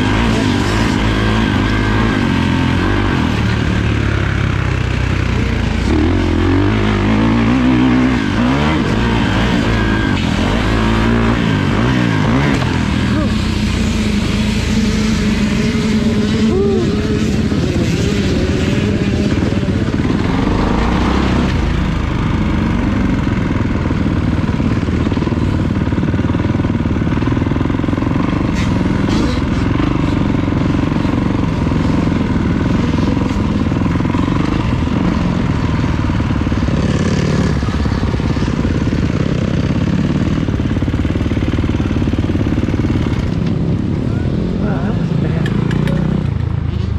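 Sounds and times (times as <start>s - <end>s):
dirt bike engine at low speed: 0.0s - 46.9s.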